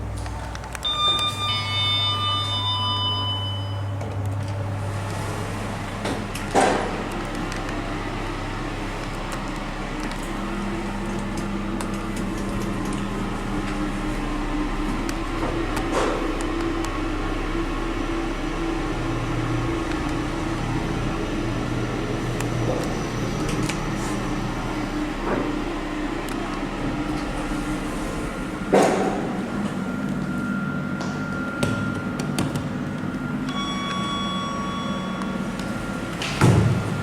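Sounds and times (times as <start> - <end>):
lift humming: 0.0 - 37.0.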